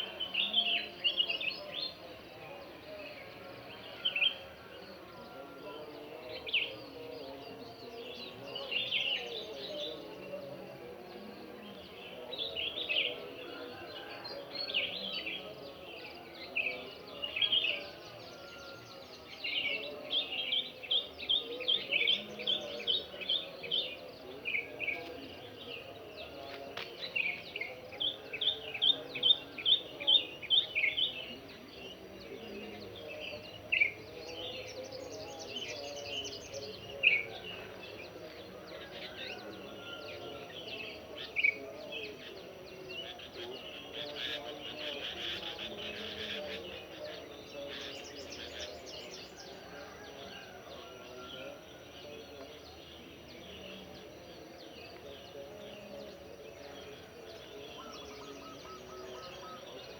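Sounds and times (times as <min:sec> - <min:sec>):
faint background noise: 0:00.0 - 0:59.9.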